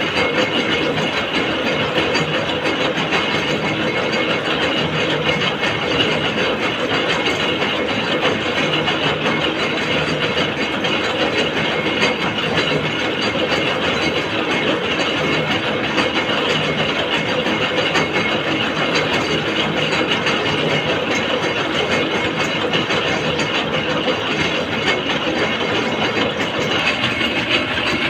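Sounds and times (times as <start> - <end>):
machine mechanical clatter: 0.0 - 28.0.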